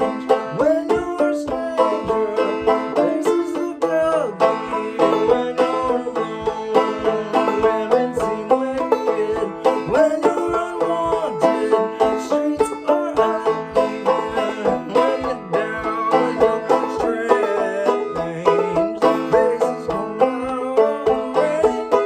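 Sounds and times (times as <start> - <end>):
banjo plucking and strumming: 0.0 - 22.0.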